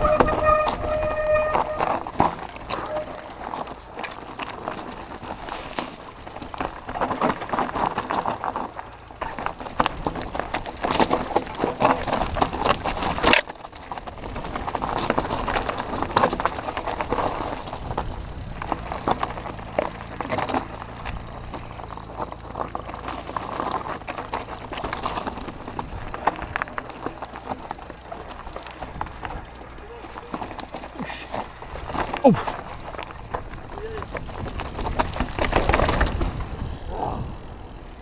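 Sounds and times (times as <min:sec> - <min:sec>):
bike rattling over bumps: 0:00.0 - 0:38.0
tyres crunching over loose stones: 0:00.0 - 0:38.0.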